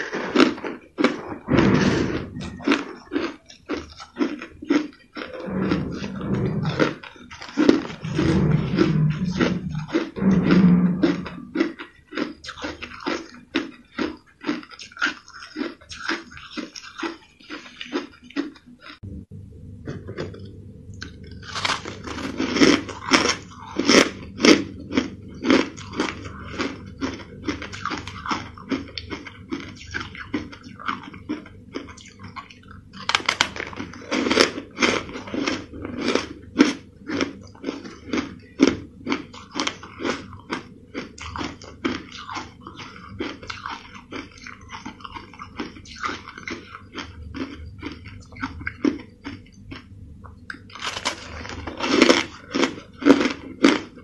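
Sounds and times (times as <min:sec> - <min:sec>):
crushed ice being chewed: 0:00.0 - 0:19.0, 0:19.9 - 0:54.0.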